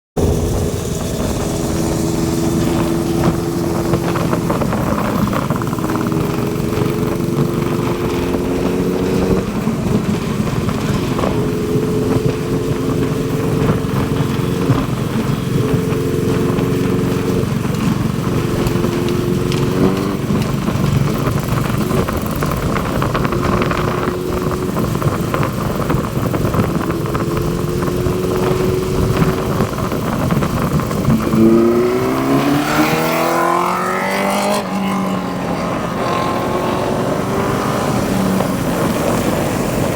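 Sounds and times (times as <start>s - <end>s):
steady rush of noise: 0.2s - 16.4s, 17.1s - 39.9s
motorcycle engine running: 0.2s - 39.9s.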